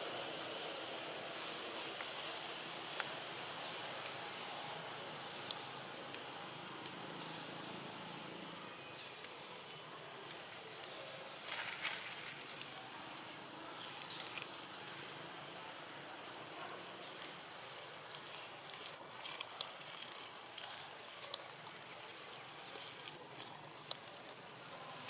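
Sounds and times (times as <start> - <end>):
rustle: 0.0 - 25.0.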